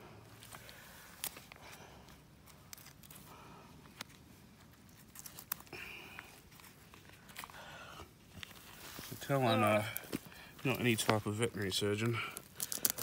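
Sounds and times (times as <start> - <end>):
gloved hands clicking and rustling: 0.3 - 13.0.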